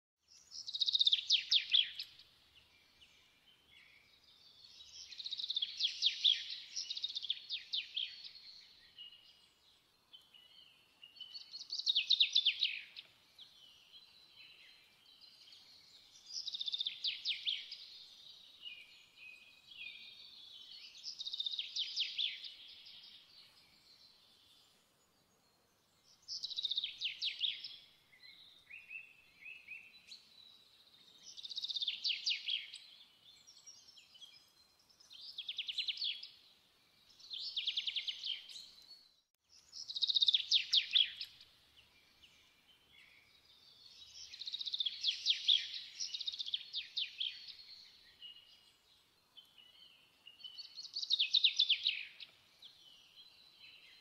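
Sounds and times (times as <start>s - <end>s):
songbird singing trills: 0.3s - 54.0s.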